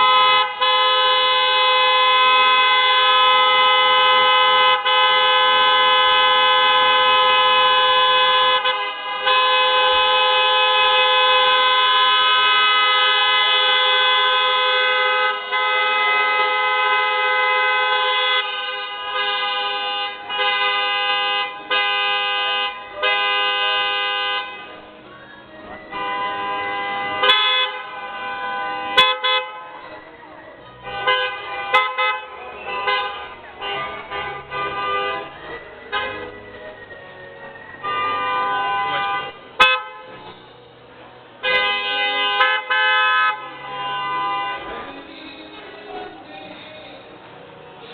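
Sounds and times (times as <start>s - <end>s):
car horn honking: 0.0s - 25.0s, 25.8s - 30.1s, 30.7s - 37.0s, 37.6s - 40.7s, 41.3s - 47.1s.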